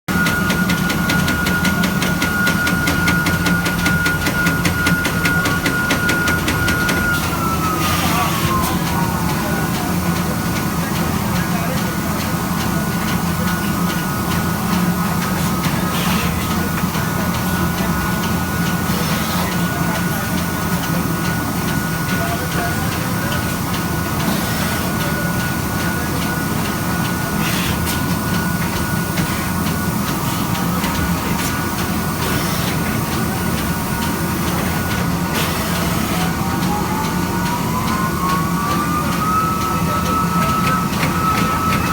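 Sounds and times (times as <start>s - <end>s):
machine whine: 0.1s - 41.9s.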